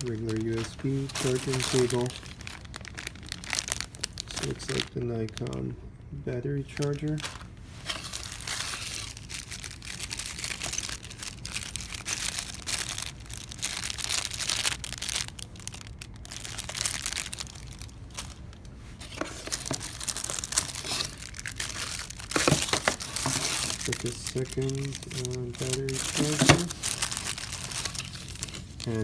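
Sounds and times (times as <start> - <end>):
packaging rustling and crinkling: 0.0 - 5.8, 6.4 - 29.0.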